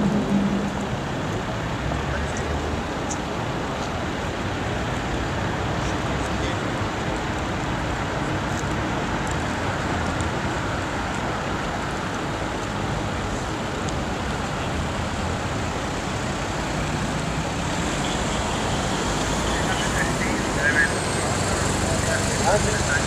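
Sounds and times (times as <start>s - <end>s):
road traffic rushing past: 0.0s - 23.0s.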